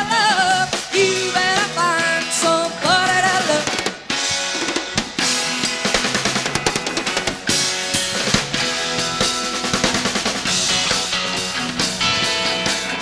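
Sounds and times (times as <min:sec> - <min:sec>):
fast snare and bass drum: 0:00.0 - 0:13.0
rock band playing live: 0:00.0 - 0:13.0
sliding wavering lead guitar: 0:00.0 - 0:13.0.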